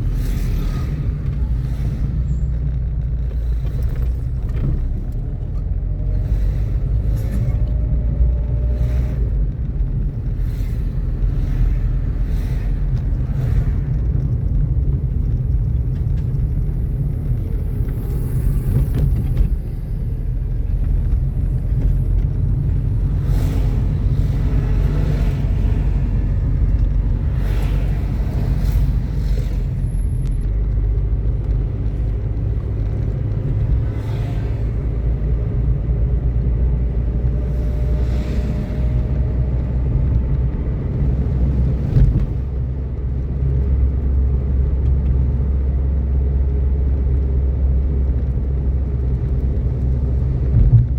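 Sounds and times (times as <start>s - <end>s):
car engine and road rumble: 0.0s - 50.9s.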